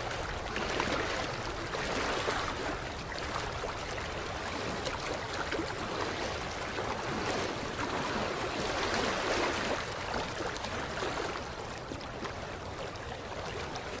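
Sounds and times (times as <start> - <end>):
water lapping against shore: 0.0 - 14.0.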